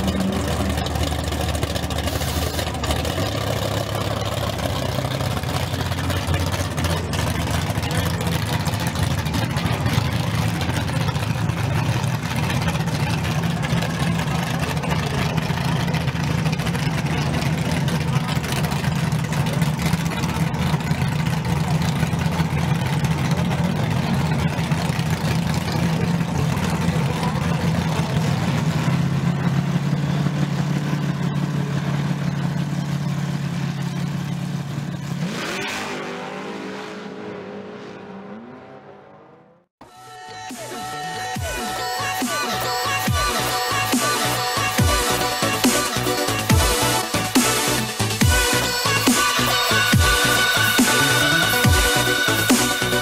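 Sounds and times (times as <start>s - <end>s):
drag car engine running: 0.0s - 53.0s.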